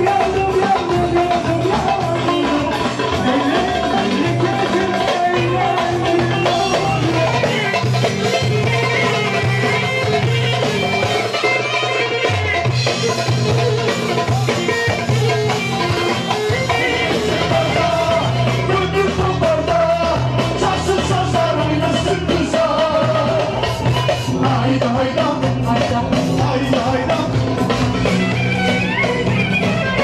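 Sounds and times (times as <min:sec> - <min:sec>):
live band dance music: 0:00.0 - 0:30.0.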